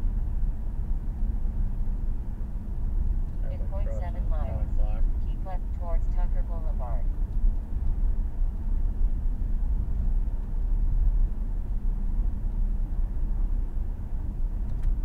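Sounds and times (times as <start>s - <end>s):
car engine hum: 0.0s - 15.0s
road and tyre noise: 0.0s - 15.0s.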